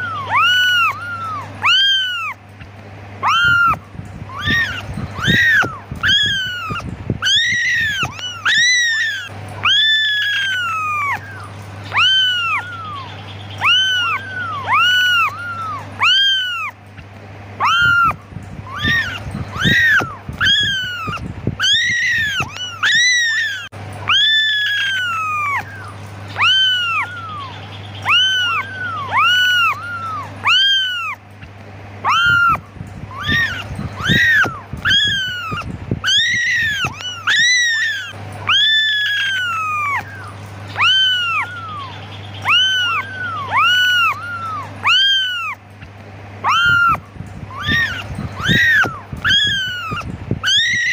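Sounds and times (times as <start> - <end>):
kittens meowing: 0.0 - 50.9.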